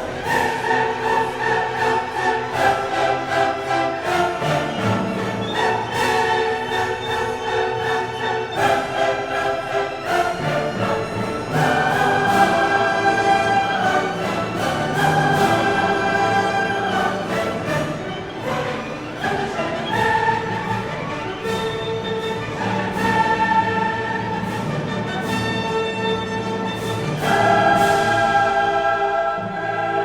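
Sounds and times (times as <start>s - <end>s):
orchestral music with strings: 0.0s - 30.0s.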